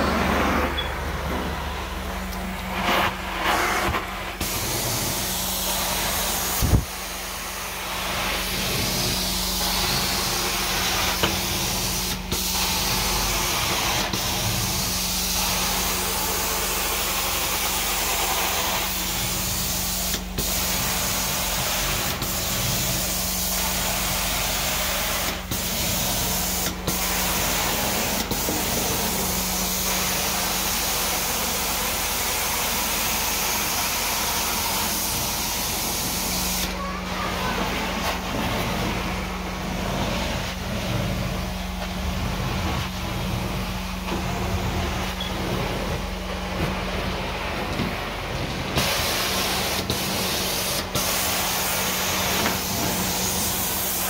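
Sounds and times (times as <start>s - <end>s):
steady machine hum: 0.0s - 54.0s
carpet cleaning wand hissing: 1.5s - 45.9s, 48.6s - 54.0s.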